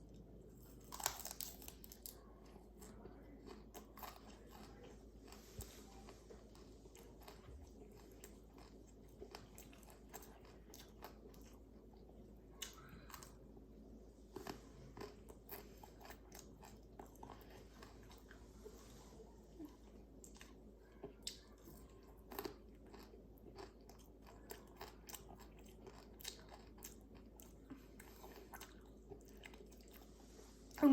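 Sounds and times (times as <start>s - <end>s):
person chewing broccoli: 0.0s - 30.8s.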